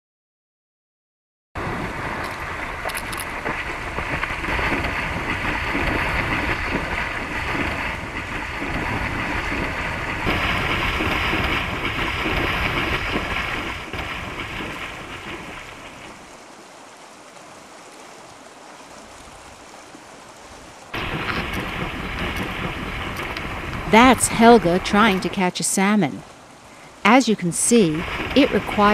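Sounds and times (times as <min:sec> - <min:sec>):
bear splashing through shallow water: 0:01.6 - 0:25.4, 0:26.7 - 0:28.9.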